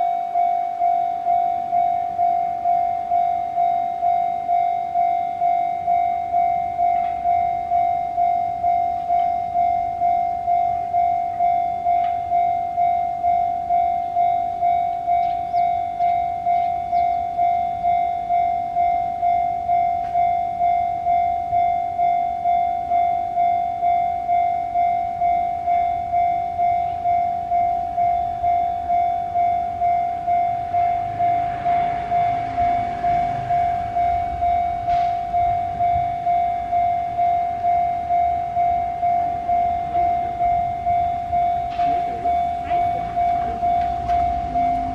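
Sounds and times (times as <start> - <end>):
level crossing warning bell: 0.0 - 44.9
train rumbling past: 0.0 - 44.9.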